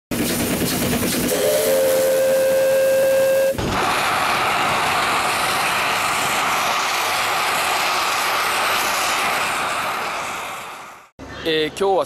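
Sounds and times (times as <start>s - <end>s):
steam hissing: 0.1s - 11.1s.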